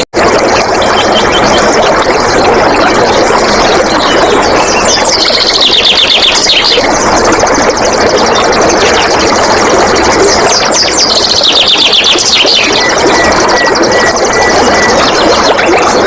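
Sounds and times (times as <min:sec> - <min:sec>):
stream water splashing: 0:00.2 - 0:16.0.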